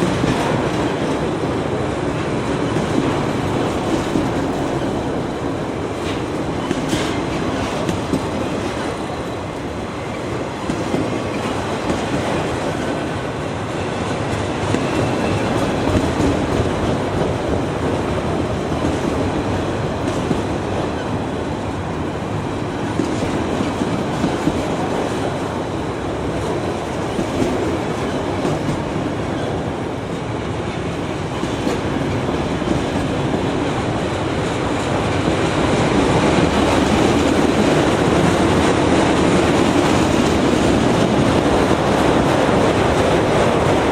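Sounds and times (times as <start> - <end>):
train wheels rolling on rail: 0.0 - 43.9.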